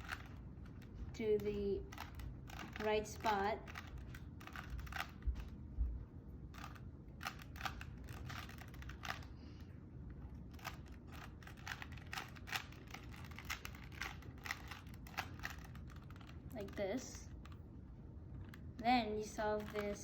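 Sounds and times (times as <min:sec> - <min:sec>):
puzzle cube plastic clicks: 0:00.0 - 0:05.6, 0:06.5 - 0:09.4, 0:10.4 - 0:17.6, 0:18.4 - 0:20.0.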